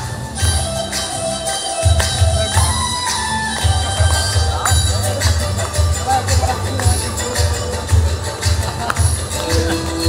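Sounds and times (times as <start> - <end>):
gospel music with bass beat: 0.0 - 10.0.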